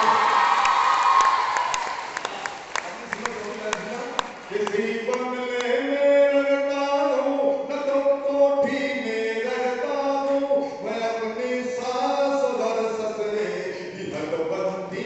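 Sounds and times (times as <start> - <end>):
man chanting into a microphone: 2.8 - 15.0.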